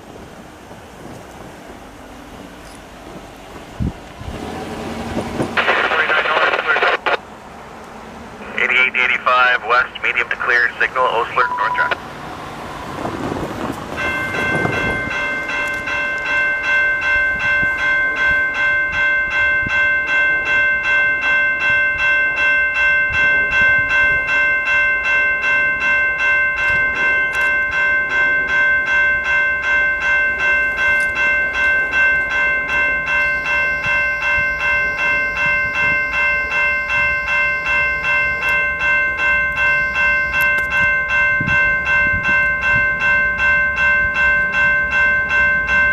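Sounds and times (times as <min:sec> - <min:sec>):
level crossing warning bell ringing: 0:04.4 - 0:13.1, 0:13.9 - 0:45.9.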